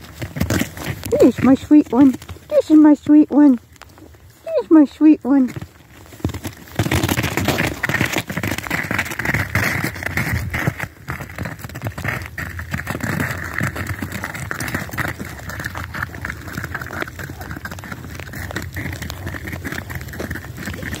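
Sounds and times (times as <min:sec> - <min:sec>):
footsteps crunching on icy snow: 0:00.0 - 0:21.0.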